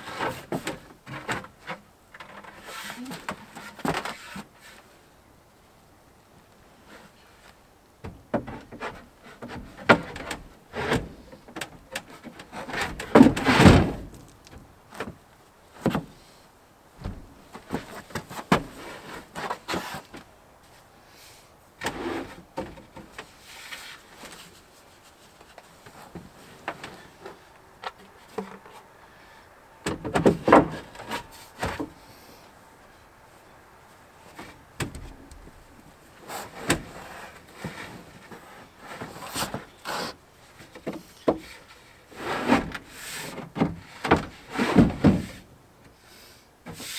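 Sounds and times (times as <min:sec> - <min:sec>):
camper parts clunking and scraping: 0:00.0 - 0:46.9.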